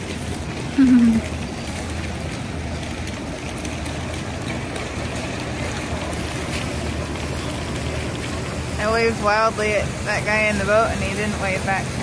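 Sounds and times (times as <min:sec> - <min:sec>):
boat engine humming: 0:00.0 - 0:12.0
water and wind noise: 0:00.0 - 0:12.0.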